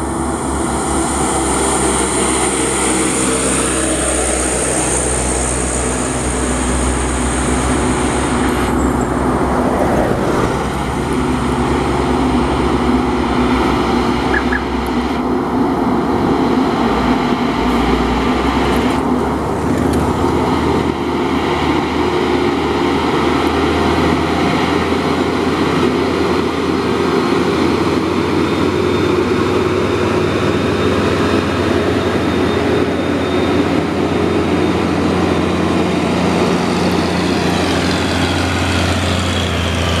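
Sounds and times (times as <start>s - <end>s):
passing traffic tyre noise: 0.0s - 40.0s
truck diesel engines under load: 0.0s - 40.0s.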